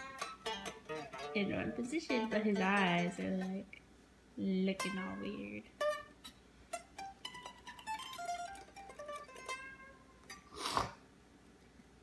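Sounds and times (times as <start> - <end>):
guitar plucked melody: 0.0 - 10.5.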